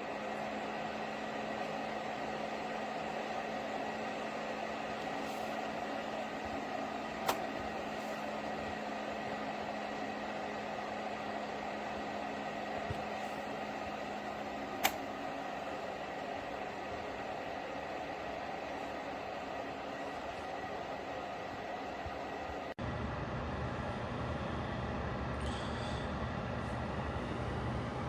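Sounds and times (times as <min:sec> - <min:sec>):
heater fan whirring: 0:00.0 - 0:28.0.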